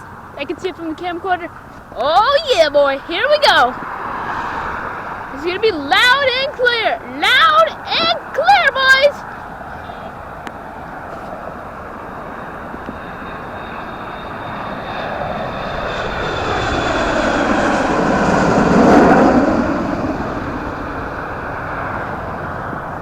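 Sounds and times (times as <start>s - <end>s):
high jet engine whine: 0.0s - 23.0s
jet airliner passing overhead: 0.0s - 23.0s.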